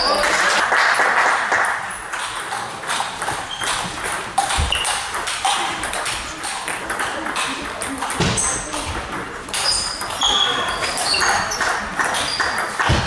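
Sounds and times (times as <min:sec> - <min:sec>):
crowd noise: 0:00.0 - 0:13.0
table tennis ball clicking: 0:02.0 - 0:13.0.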